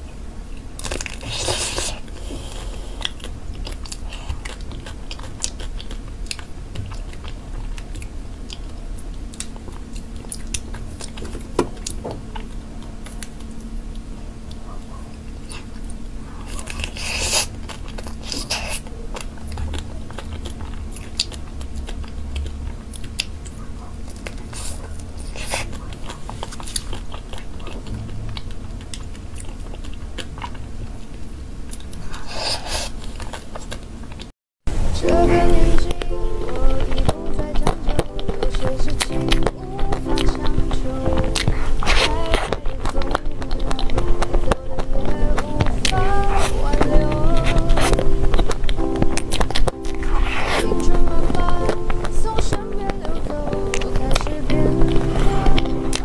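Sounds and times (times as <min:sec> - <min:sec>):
chewing mousse cake: 0:00.0 - 0:34.3, 0:35.8 - 0:56.0
crackling bursts: 0:00.0 - 0:56.0.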